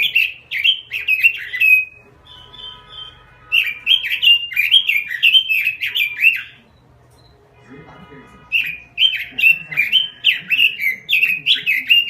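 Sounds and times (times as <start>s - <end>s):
bird singing fluting phrases: 0.0s - 6.9s, 8.3s - 12.0s.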